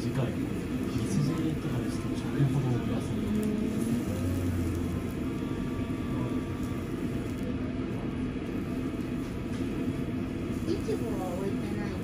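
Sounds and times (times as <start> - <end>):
ventilation rumble: 0.0 - 12.0.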